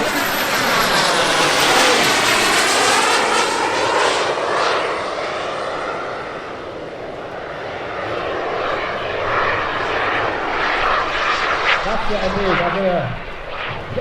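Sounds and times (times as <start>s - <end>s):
high turbine whine: 0.0s - 14.0s
model jet turbine rush: 0.0s - 14.0s.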